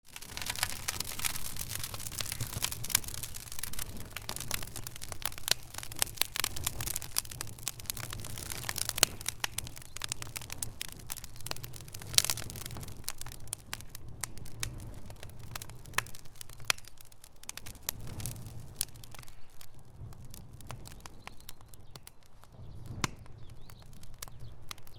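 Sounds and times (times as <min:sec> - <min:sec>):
fire crackling: 0:00.0 - 0:24.9.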